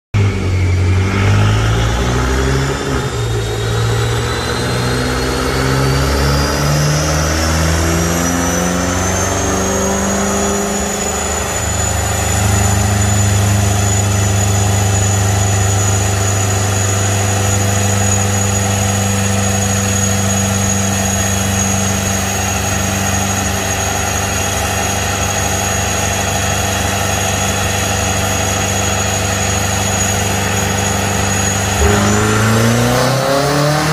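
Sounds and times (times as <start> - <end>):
high turbo whine: 0.1 - 33.9
car engine revving under load: 0.2 - 25.5, 26.6 - 33.9.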